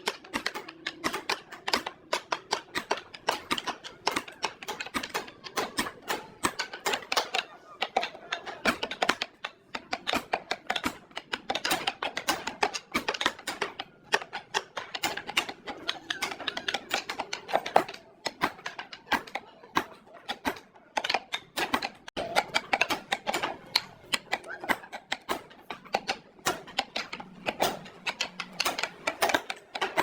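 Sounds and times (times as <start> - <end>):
rapid irregular clicks and taps: 0.0 - 30.0.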